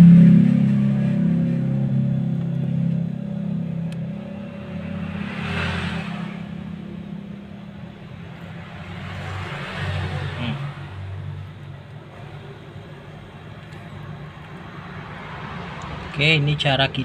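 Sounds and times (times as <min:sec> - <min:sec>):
compressor humming: 0:00.0 - 0:16.4.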